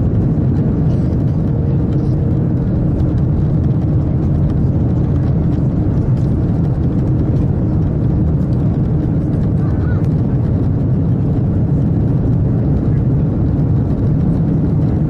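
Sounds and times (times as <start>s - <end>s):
train cabin running noise: 0.0s - 15.0s.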